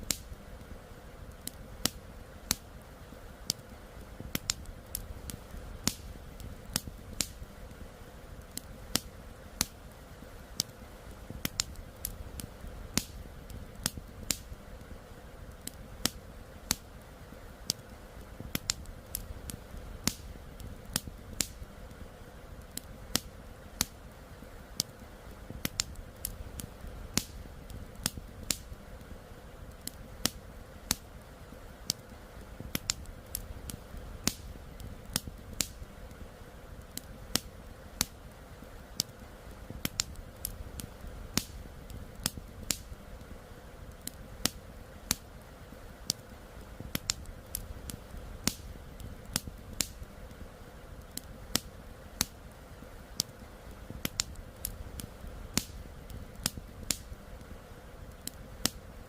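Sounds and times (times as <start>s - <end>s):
campfire pops and snaps: 0.0s - 59.0s.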